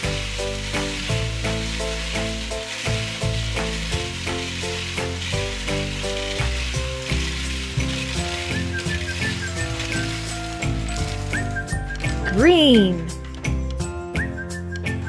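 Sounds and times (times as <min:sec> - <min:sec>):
candies pouring down plastic chute: 0:00.0 - 0:13.2
background music: 0:00.0 - 0:15.0.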